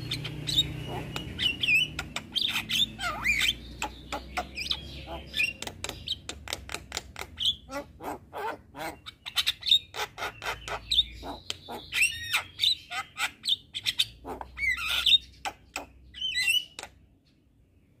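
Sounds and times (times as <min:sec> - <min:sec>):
myna bird chattering and whistling: 0:00.0 - 0:17.1.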